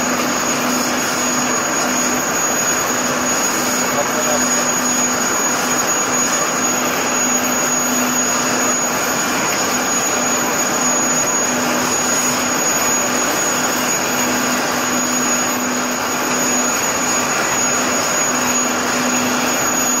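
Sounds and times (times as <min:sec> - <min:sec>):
high-pressure water jet hissing: 0:00.0 - 0:20.0.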